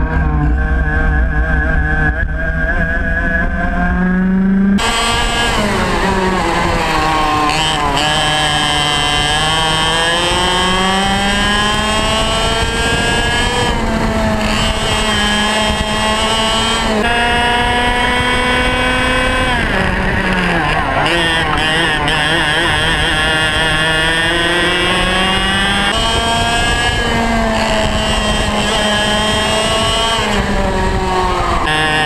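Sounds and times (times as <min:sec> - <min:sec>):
kart engine accelerating: 0:00.0 - 0:32.0.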